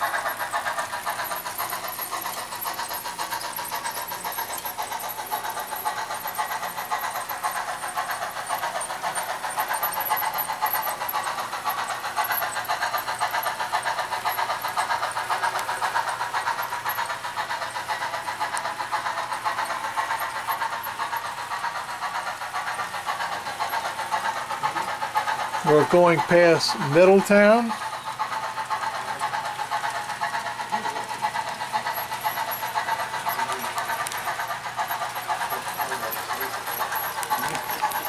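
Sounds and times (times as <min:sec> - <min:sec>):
model train running on track: 0:00.0 - 0:38.0.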